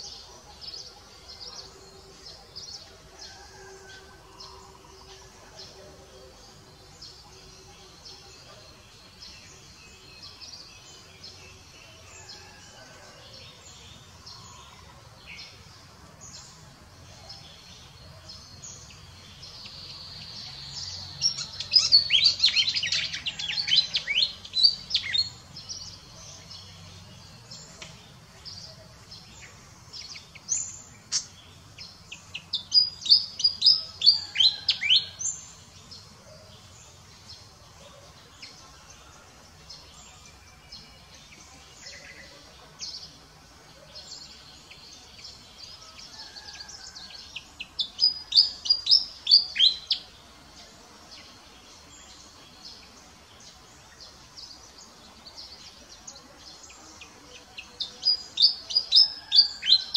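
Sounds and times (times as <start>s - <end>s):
birds chirping: 0.0s - 59.9s
faint outdoor background: 0.0s - 59.9s.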